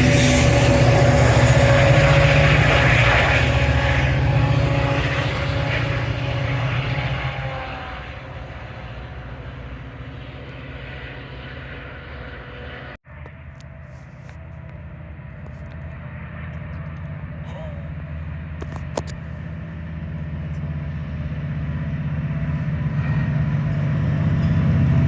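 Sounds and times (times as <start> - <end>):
train engine rumble: 0.0 - 25.0.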